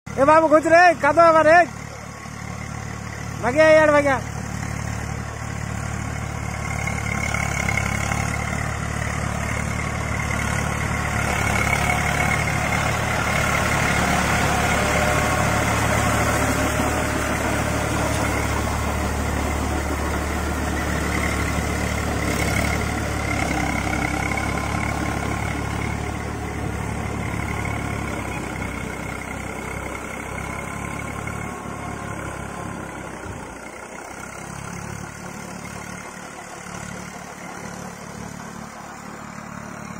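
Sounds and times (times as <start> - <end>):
diesel tractor running under load: 0.1 - 39.9.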